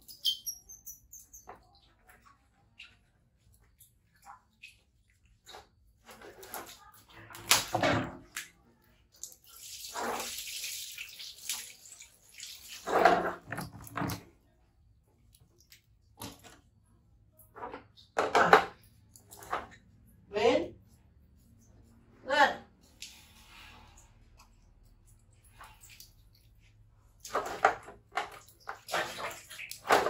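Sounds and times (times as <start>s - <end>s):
water splashing on tiled floor: 0.0s - 14.4s, 15.2s - 20.2s, 22.7s - 30.0s.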